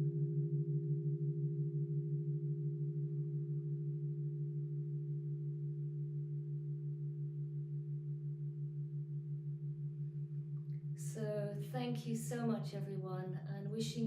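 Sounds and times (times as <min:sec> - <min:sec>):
crystal singing bowls ringing: 0:00.0 - 0:12.8.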